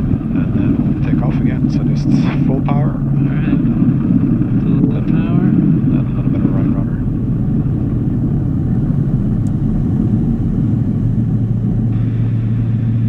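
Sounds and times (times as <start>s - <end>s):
low steady drone: 0.0s - 13.0s
propeller and tyres rumbling: 0.0s - 13.0s.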